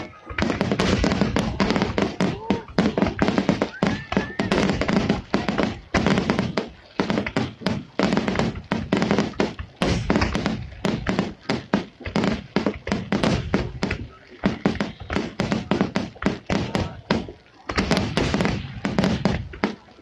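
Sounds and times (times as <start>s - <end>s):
firework crackle: 0.0s - 20.0s
firework shells booming: 0.0s - 20.0s.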